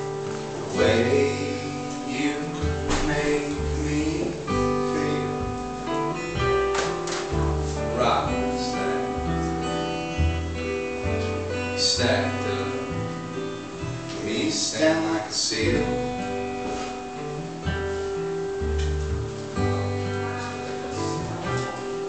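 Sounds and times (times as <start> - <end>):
plucked string instrument: 0.0 - 22.0
plucked upright bass: 0.0 - 22.0
strummed acoustic guitar: 0.0 - 22.0.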